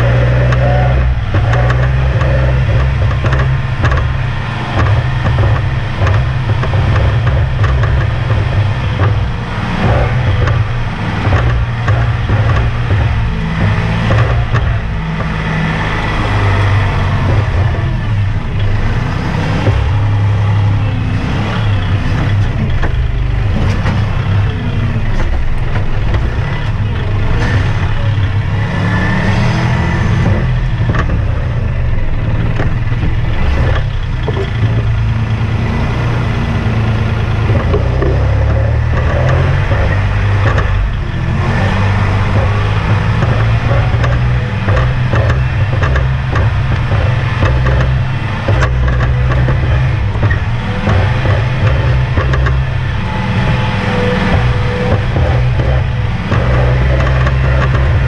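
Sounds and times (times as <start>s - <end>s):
machine rattles and knocks: 0.0s - 58.0s
tractor diesel engine running: 0.0s - 58.0s.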